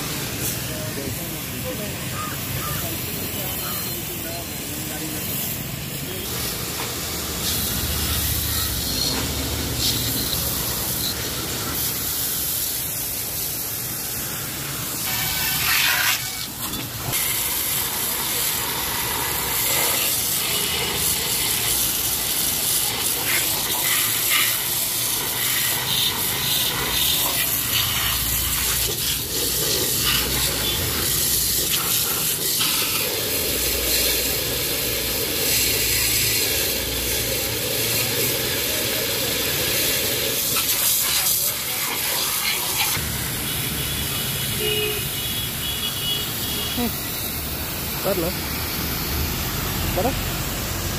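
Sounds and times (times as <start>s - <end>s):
pressure hose spraying on metal: 0.0s - 50.9s.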